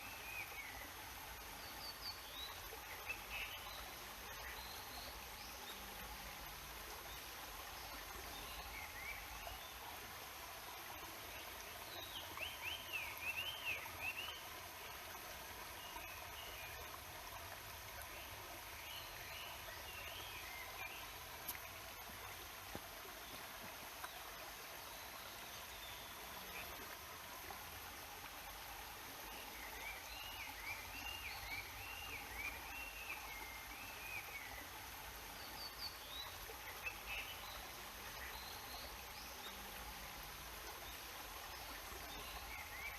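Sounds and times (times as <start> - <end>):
stream water murmuring: 0.0 - 42.9.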